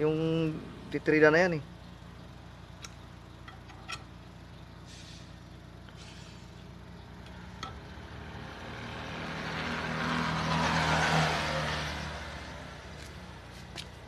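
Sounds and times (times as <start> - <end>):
road vehicle passing: 0.0 - 14.0.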